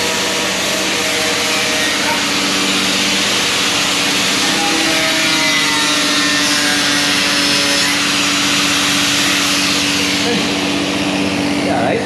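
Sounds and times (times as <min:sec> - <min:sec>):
power tool running: 0:00.0 - 0:12.0.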